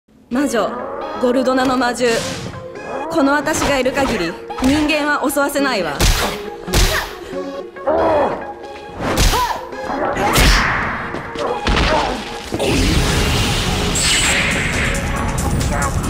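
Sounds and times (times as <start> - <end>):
background music: 0.1 - 16.0.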